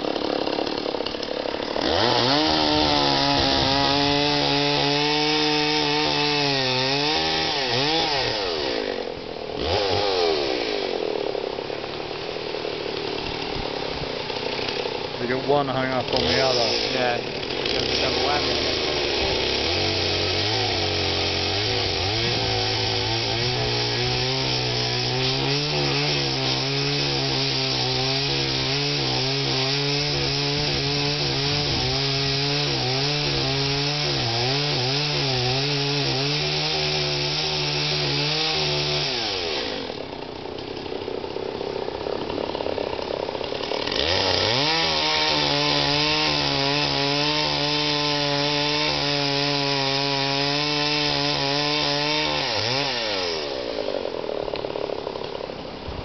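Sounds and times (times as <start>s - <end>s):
chainsaw cutting wood: 0.0s - 56.0s
chainsaw idling: 0.0s - 56.0s.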